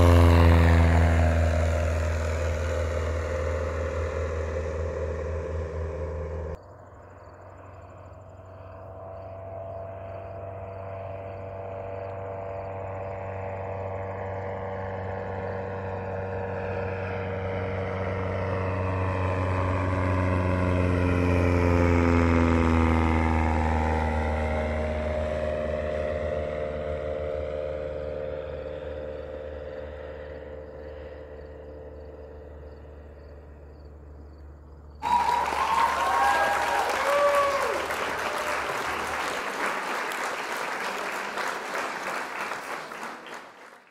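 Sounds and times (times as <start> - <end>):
light plane flying past: 0.0 - 43.9.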